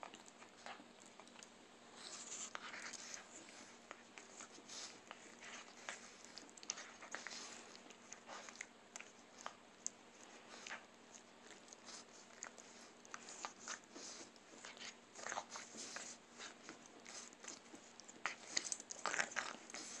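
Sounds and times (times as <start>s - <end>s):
puppy chewing plush toy: 0.0s - 20.0s.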